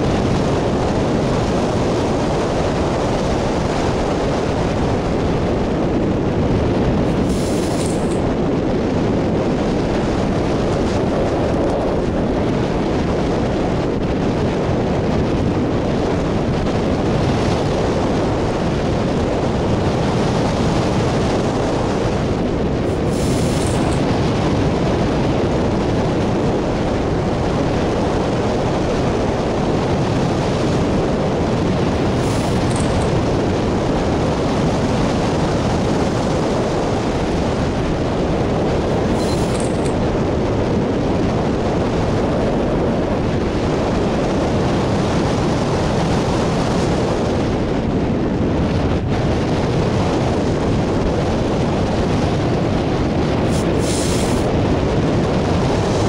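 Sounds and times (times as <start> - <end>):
airflow buffeting microphone: 0.0 - 56.0.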